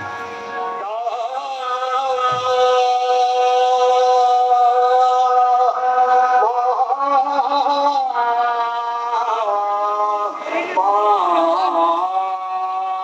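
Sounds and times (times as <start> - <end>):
man singing a chant: 0.5 - 13.0.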